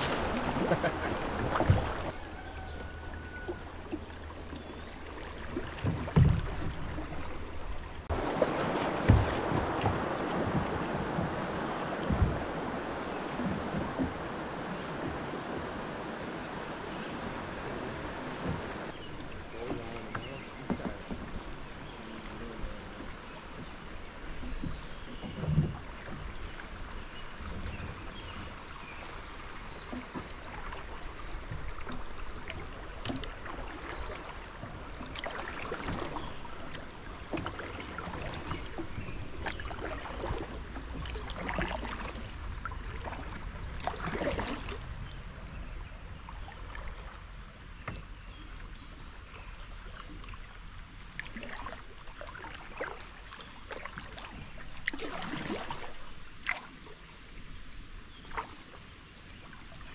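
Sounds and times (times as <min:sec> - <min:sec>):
paddle splashing in water: 0:00.0 - 0:59.9
water washing along hull: 0:00.0 - 0:59.9.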